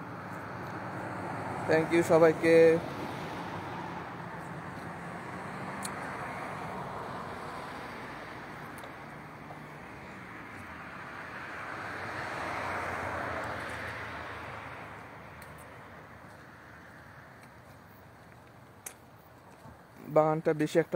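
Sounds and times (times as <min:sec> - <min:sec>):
rushing outdoor noise: 0:00.0 - 0:20.9.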